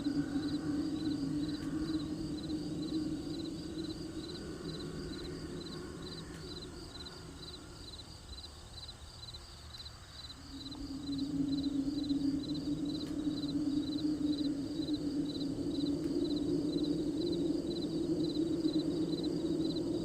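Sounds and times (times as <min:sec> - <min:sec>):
crickets chirping: 0:00.0 - 0:20.0
low steady hum: 0:00.0 - 0:20.0.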